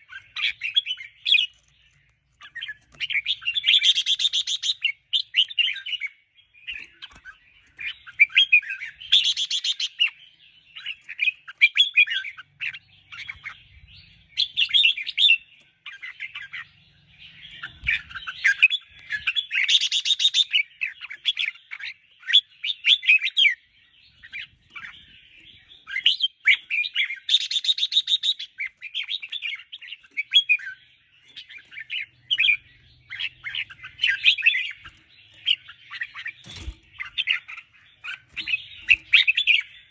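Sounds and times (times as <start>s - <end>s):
bird singing chirpy warbled phrases: 0.0s - 39.9s.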